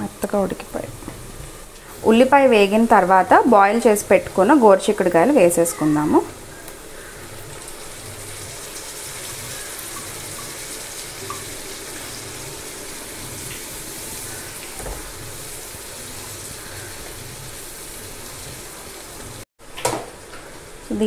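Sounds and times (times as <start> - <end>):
beans sizzling in oil: 0.2 - 19.4.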